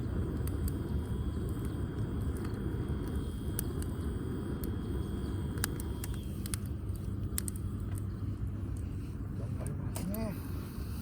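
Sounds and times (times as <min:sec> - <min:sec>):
firewood crackling and popping: 0:00.0 - 0:10.3
low rumble: 0:00.0 - 0:11.0.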